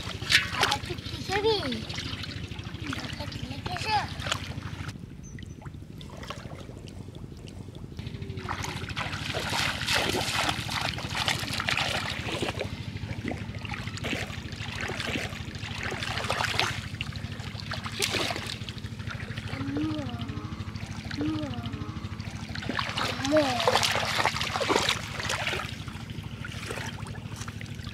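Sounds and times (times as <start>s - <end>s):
steady low hum: 0.0s - 27.9s
water splashing from wading: 0.0s - 27.9s.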